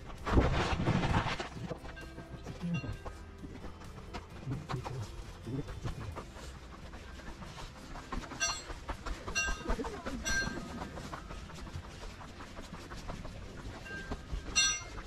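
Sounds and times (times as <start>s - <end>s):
gondola cabin rattling on cable: 0.0s - 15.0s.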